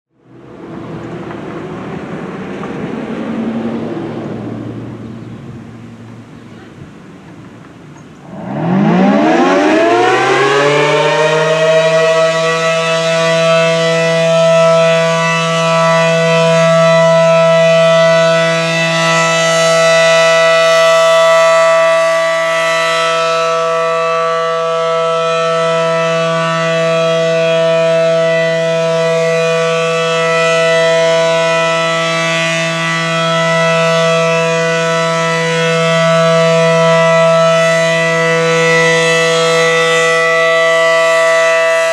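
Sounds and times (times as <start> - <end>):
warning siren winding up: 8.2 - 41.9.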